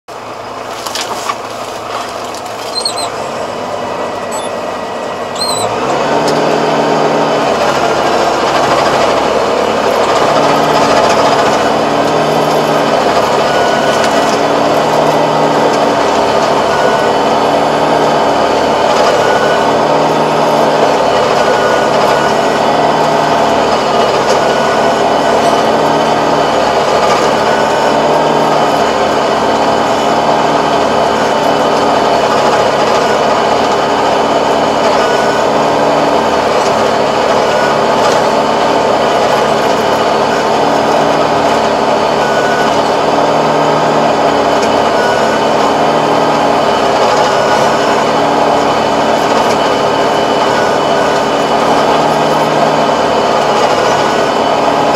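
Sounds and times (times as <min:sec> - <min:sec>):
tractor engine running: 0:00.0 - 0:54.9
rotary tiller churning soil: 0:00.1 - 0:04.6, 0:05.2 - 0:54.9.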